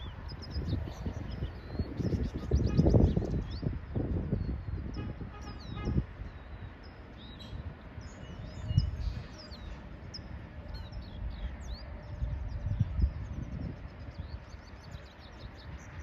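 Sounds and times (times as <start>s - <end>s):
small birds chirping: 0.0s - 16.0s
wind rumble on microphone: 0.0s - 16.0s.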